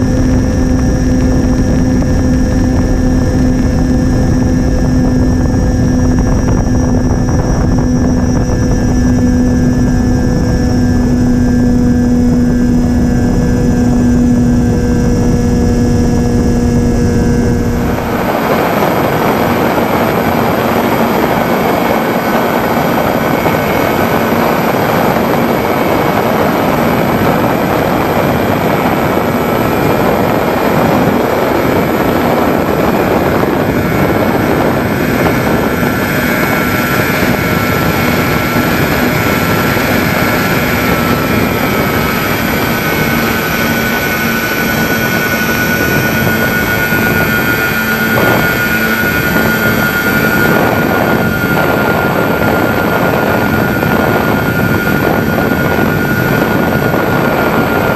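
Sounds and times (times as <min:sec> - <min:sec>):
wind rushing: 0:00.0 - 0:57.9.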